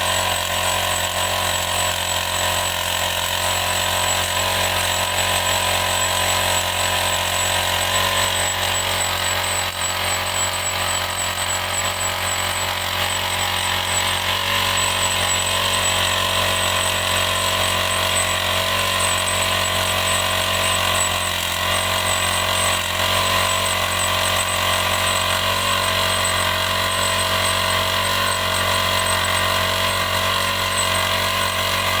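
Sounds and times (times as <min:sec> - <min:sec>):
drilling machine humming and whining: 0:00.0 - 0:32.0.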